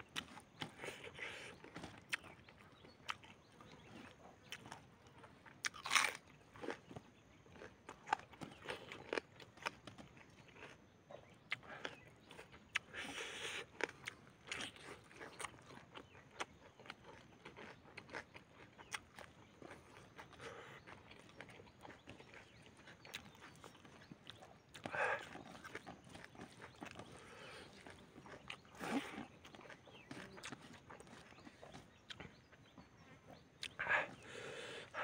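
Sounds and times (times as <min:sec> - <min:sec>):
chewing and crunching food: 0:00.0 - 0:35.0.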